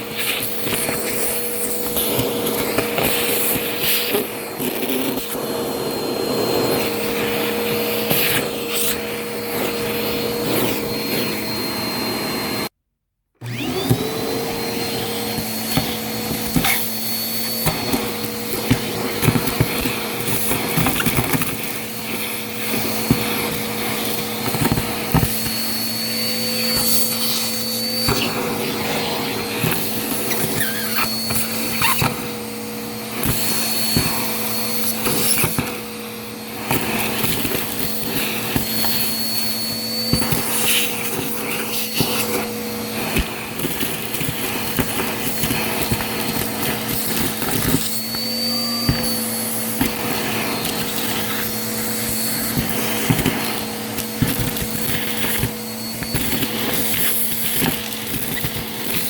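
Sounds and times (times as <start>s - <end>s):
vacuum cleaner whine: 0.0s - 12.8s, 13.4s - 59.0s.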